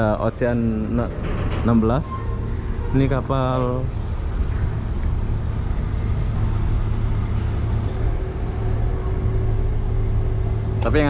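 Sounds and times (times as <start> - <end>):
faint steady hum: 0.0 - 11.0
ship engines rumbling: 0.0 - 11.0.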